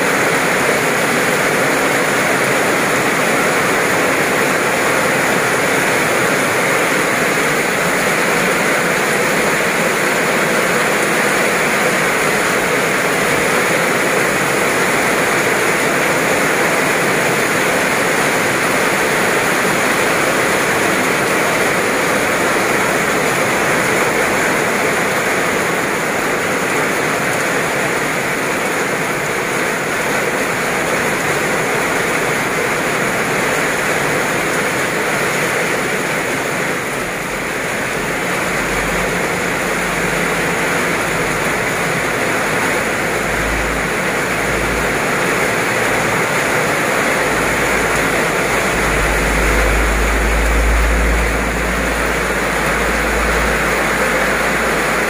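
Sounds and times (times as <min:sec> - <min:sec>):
heavy rain on wet pavement: 0:00.0 - 0:55.0.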